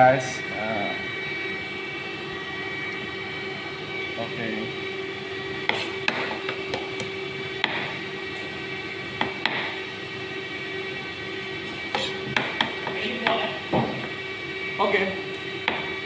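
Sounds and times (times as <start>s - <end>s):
kitchen exhaust ventilation hum: 0.0s - 16.0s.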